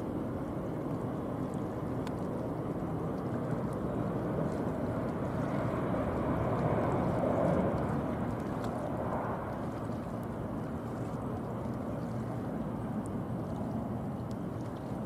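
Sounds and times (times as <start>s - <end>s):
distant jet engines: 0.0s - 15.0s.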